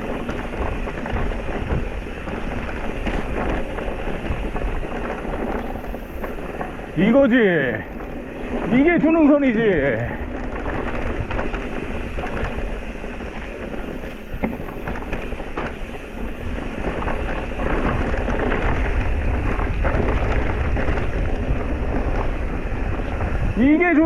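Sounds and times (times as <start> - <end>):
bike rattling: 0.0 - 24.0
tyres crunching on dirt: 0.0 - 24.0
wind rumbling on microphone: 0.0 - 24.0.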